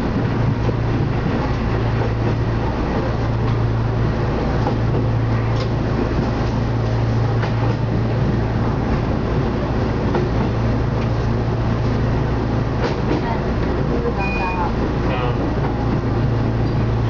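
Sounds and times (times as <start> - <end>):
railcar engine drone: 0.0 - 17.0.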